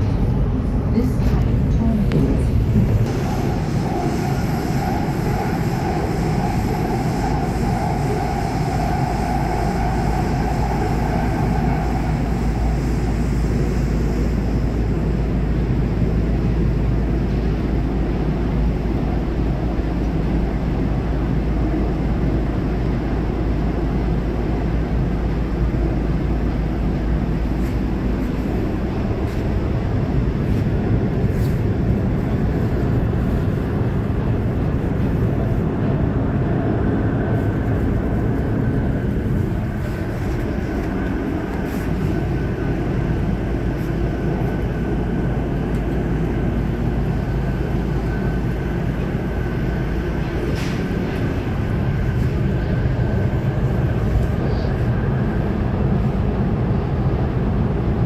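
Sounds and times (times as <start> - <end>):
steady whine: 0.0 - 22.2, 23.4 - 58.0
metro train wheels rumbling: 0.0 - 58.0.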